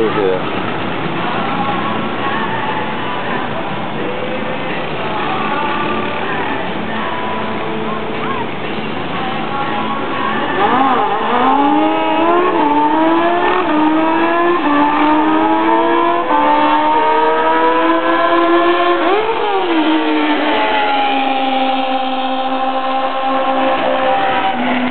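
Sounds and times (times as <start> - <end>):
racing engine at full throttle: 0.0 - 24.9.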